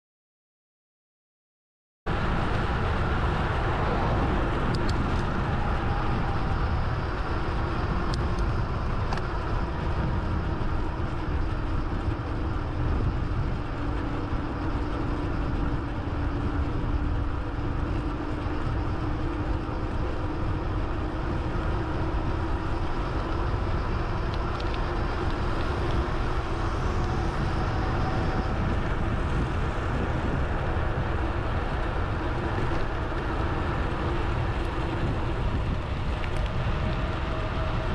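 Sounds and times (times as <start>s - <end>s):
road noise: 2.1s - 37.9s
wind rush: 2.1s - 37.9s.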